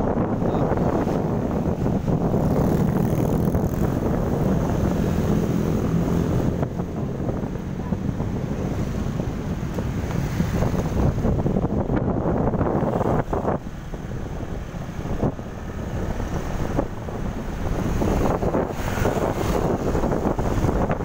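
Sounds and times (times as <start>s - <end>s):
wind buffeting microphone: 0.0s - 21.0s
motorbike engine: 1.5s - 21.0s.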